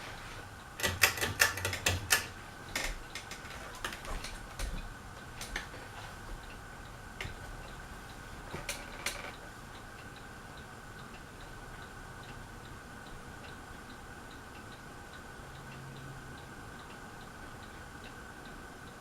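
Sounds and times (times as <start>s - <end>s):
ceiling fan motor hum: 0.0s - 19.0s
fan clicking: 0.0s - 19.0s.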